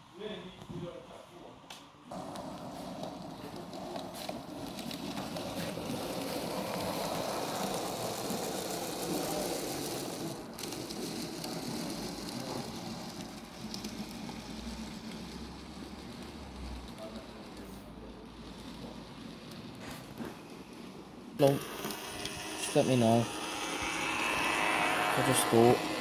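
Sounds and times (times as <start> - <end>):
model train rattling: 2.1 - 26.0.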